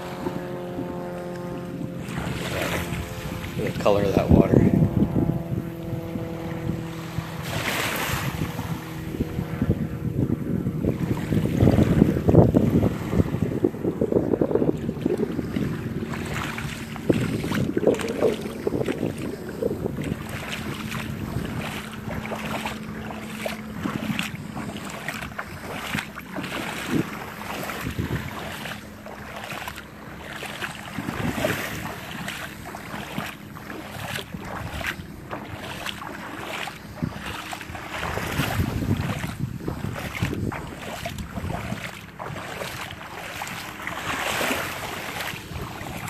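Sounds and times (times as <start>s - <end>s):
small waves lapping at shore: 0.0s - 46.0s
wind buffeting microphone: 0.0s - 46.0s.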